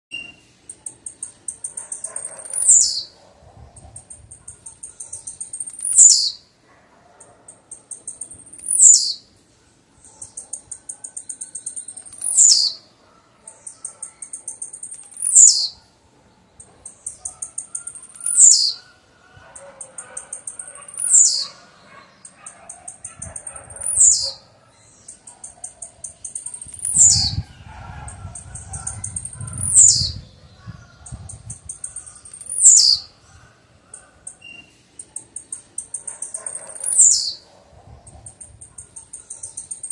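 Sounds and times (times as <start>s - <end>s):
bird singing: 0.1s - 39.9s.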